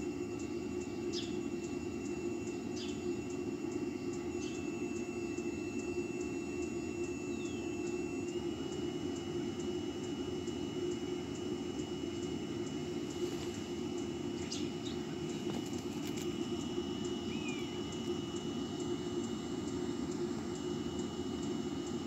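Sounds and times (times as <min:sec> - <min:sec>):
heater combustion and blower rumble: 0:00.0 - 0:22.0
thin high whine: 0:00.0 - 0:22.0.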